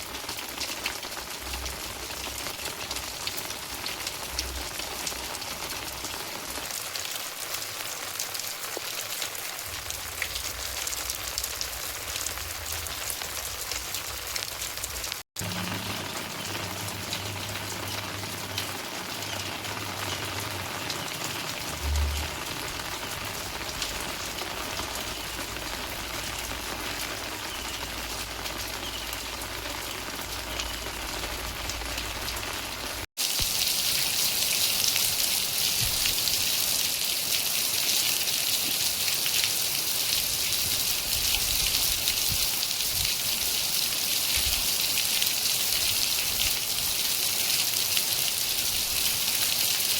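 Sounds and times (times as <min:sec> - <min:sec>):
rain pattering on surfaces: 0:00.0 - 0:49.9.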